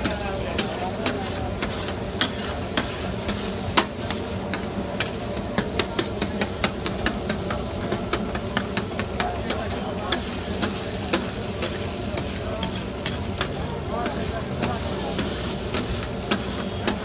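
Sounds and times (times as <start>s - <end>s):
meat sizzling on a griddle: 0.0s - 17.0s
metal spatula clicking on griddle: 0.0s - 17.0s.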